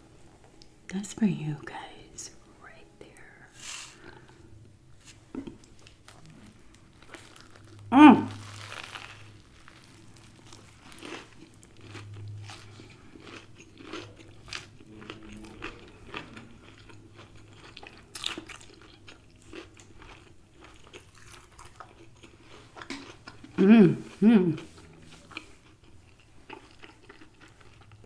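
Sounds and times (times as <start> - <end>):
person chewing crispy food: 3.8 - 28.0.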